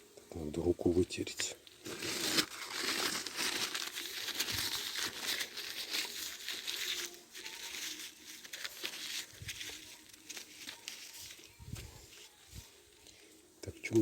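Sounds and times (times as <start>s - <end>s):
napkin crinkling: 1.7s - 13.1s.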